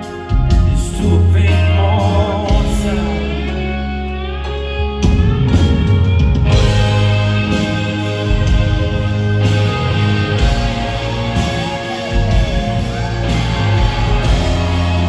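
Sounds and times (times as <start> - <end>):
bass guitar: 0.0 - 15.0
drums: 0.0 - 15.0
electric guitars: 0.0 - 15.0.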